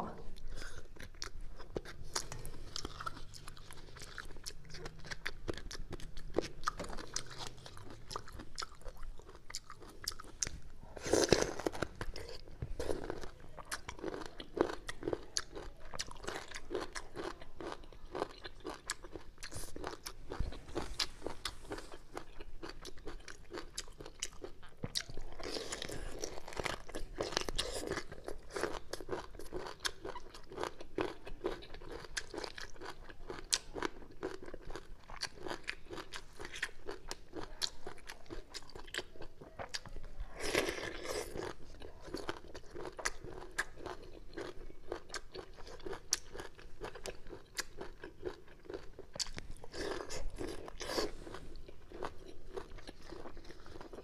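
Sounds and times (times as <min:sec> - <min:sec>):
crunchy chewing: 0:00.4 - 0:54.0.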